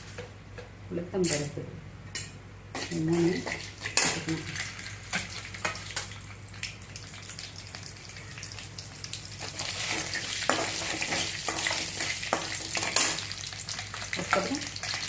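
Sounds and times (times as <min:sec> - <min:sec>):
seeds frying in sizzling oil: 0:02.8 - 0:15.0.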